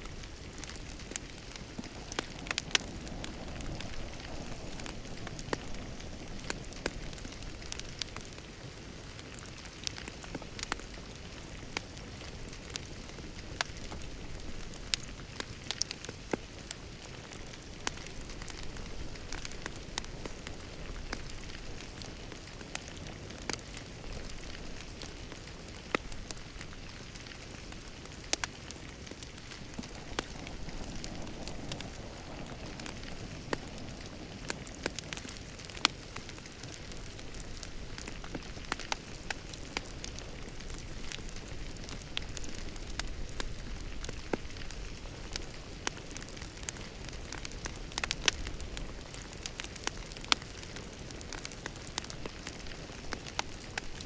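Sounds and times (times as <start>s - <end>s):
fire crackles and pops: 0.0s - 54.0s
wood fire hissing and rumbling: 0.0s - 54.0s.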